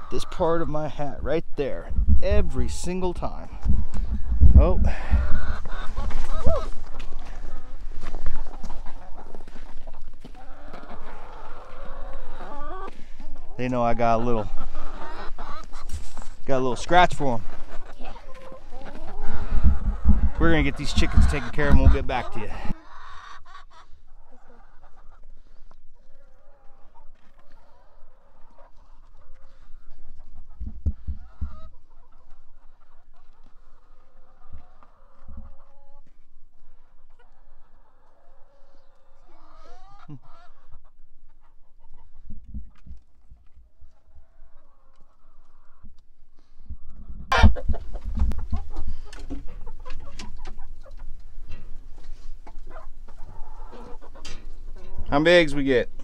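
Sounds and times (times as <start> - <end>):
hens clucking: 0.0 - 56.0.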